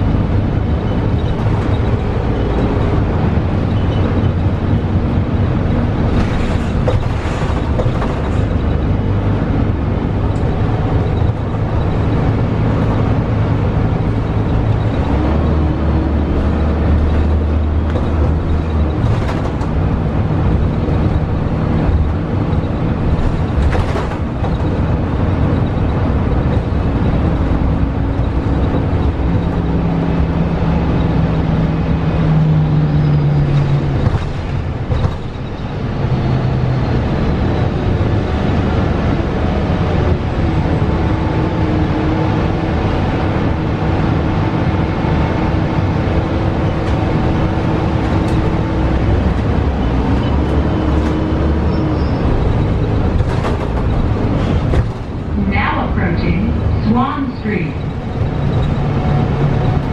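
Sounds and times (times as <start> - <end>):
bus diesel engine running: 0.0 - 59.9
road and tyre noise: 0.0 - 59.9.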